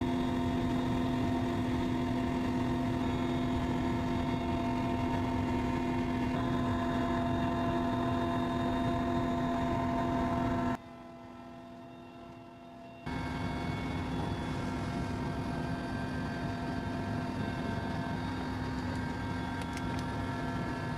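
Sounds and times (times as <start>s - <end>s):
helicopter engine drone: 0.0s - 20.9s.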